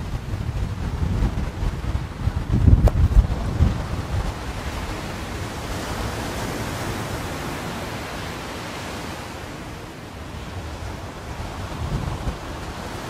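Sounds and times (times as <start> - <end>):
sea waves washing on beach: 0.0 - 13.0.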